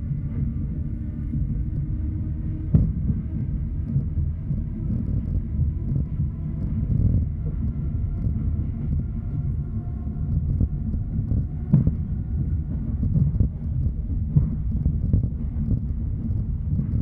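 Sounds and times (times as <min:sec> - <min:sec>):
faint whine: 0:00.0 - 0:17.0.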